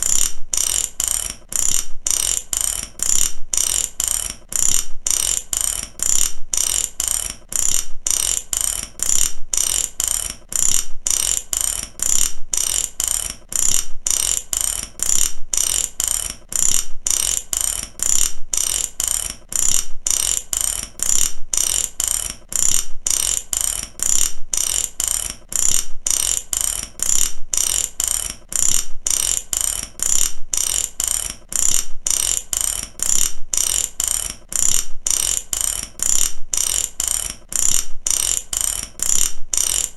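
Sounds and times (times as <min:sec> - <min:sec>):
mechanical ratchet clicking: 0:00.0 - 0:39.9.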